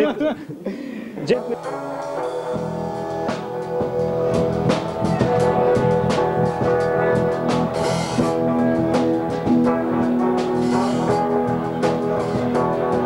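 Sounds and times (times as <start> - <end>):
cymbal crash: 1.4 - 13.0
rock band playing live: 1.4 - 13.0.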